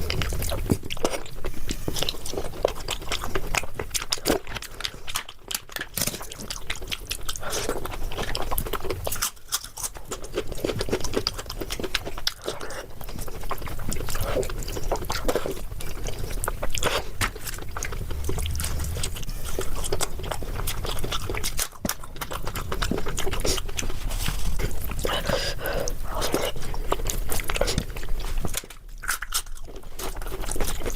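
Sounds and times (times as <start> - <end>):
wet chewing and lip-smacking: 0.0 - 30.9.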